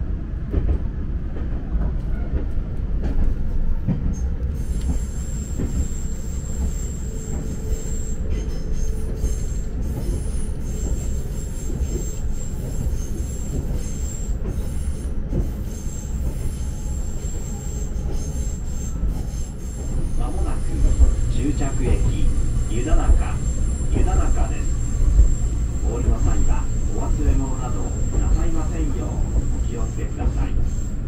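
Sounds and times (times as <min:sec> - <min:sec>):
wheels rumbling on track: 0:00.1 - 0:31.0
high wheel squeal: 0:04.6 - 0:31.0.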